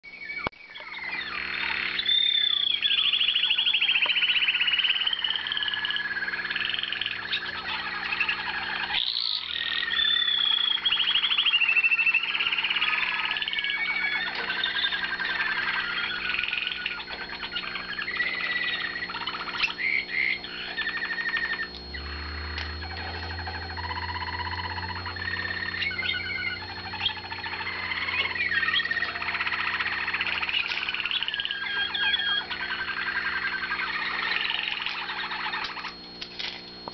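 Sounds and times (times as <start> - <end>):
canaries singing trills: 0.1 - 36.9.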